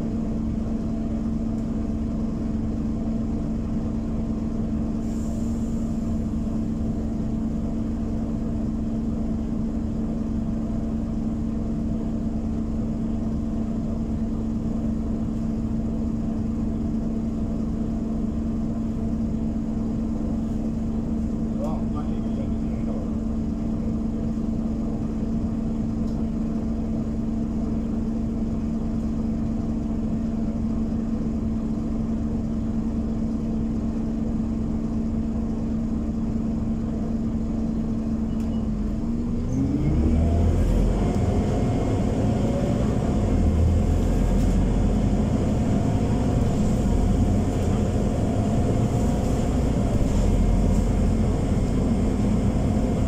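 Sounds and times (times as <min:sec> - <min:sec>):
bus diesel engine idling and revving: 0:00.0 - 0:53.0.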